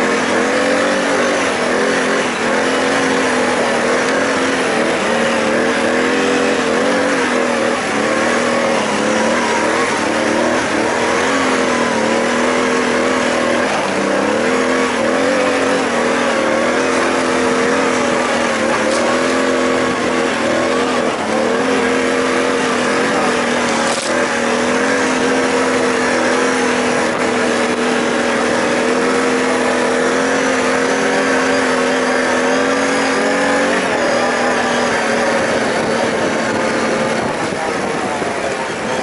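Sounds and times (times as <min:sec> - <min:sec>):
atv engine droning: 0:00.0 - 0:39.0.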